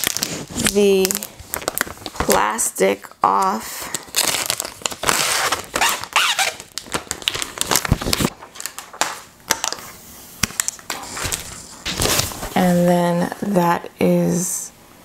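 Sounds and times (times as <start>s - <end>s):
plastic film crinkling: 0.0s - 9.8s, 10.4s - 12.8s.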